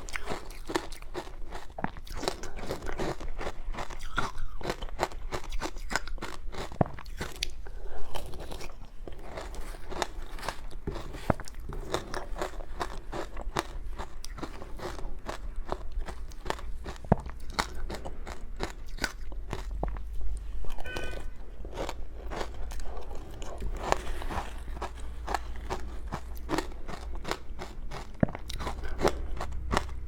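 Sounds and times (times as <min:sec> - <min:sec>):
crunching and chewing ice: 0:00.0 - 0:30.0.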